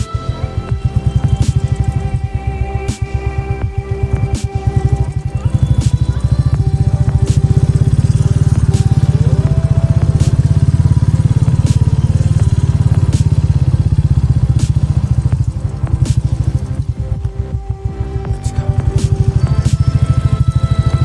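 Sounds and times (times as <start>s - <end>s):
background music: 0.0s - 21.0s
motorcycle engine running: 0.0s - 21.0s.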